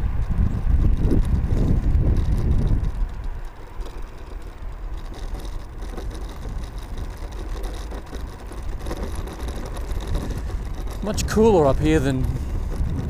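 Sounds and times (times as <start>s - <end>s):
road rumble: 0.0s - 13.0s
wind buffeting microphone: 0.0s - 13.0s.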